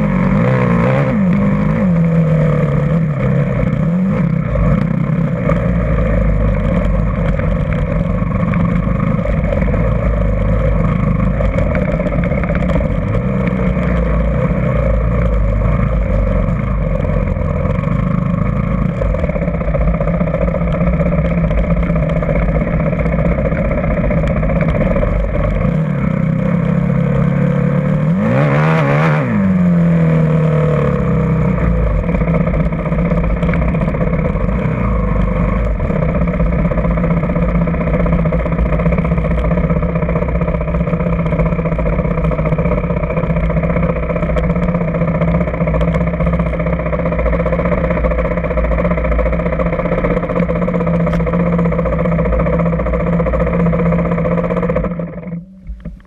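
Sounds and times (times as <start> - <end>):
dirt bike engines running: 0.0 - 56.0.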